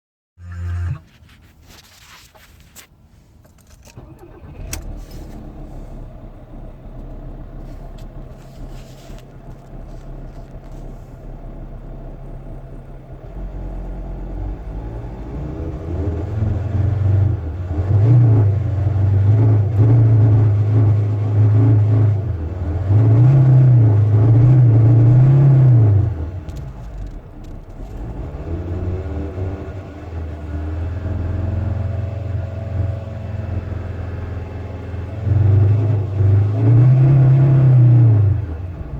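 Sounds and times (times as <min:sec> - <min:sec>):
diesel engine misfiring and surging: 0:03.9 - 0:38.9.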